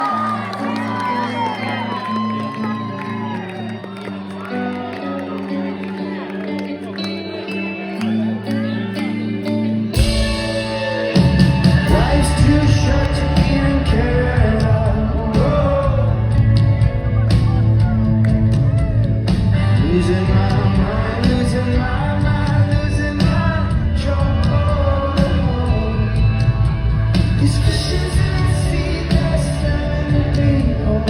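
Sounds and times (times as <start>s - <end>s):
rock music with singer: 0.0s - 31.0s.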